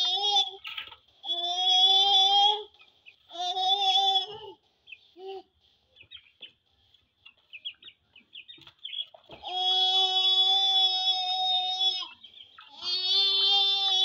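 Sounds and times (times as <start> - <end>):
chicken chirps and clucks: 0.0 - 14.0.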